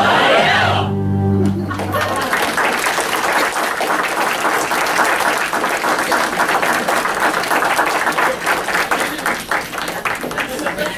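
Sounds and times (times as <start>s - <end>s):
audience applauding: 1.4s - 10.9s.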